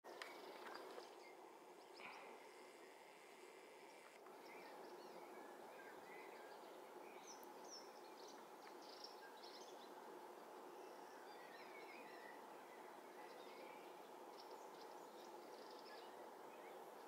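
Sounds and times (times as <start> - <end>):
small birds chirping: 0.1 - 17.0
steady low hiss: 0.1 - 17.0.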